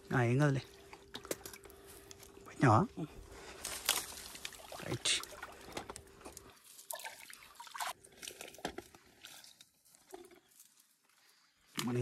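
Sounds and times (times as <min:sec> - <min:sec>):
water trickling and splashing: 0:00.0 - 0:02.4, 0:03.6 - 0:11.3.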